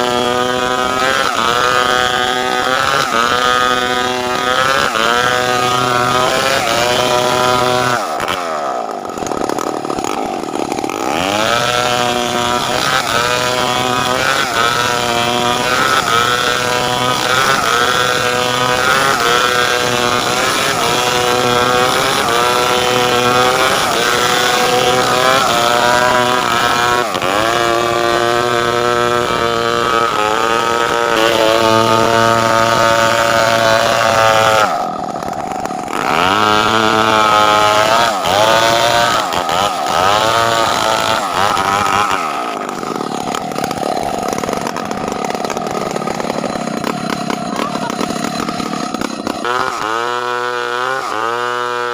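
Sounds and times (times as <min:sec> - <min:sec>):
chainsaw cutting timber: 0:00.0 - 0:51.9.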